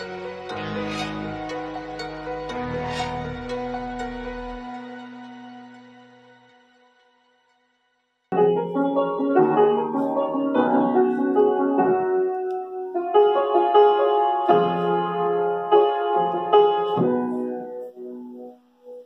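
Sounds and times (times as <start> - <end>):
upright piano chords: 0.0 - 6.5, 8.3 - 19.0.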